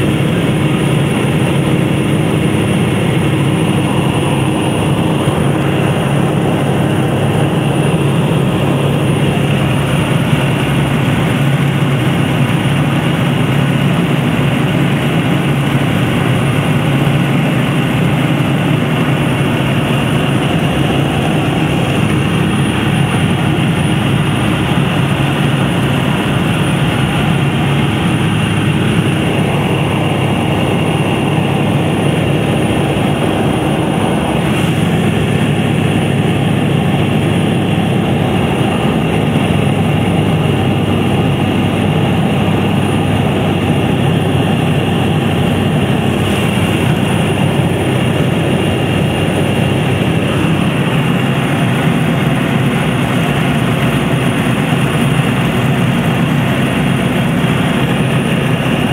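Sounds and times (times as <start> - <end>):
propeller plane engine droning: 0.0 - 58.9.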